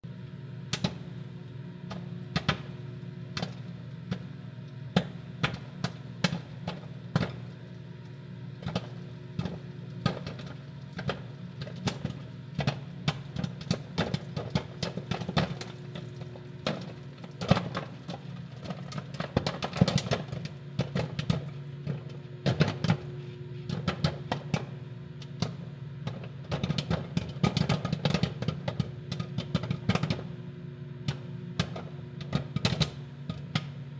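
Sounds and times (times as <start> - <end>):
microwave oven hum: 0.0 - 33.9
popcorn popping: 0.6 - 33.9.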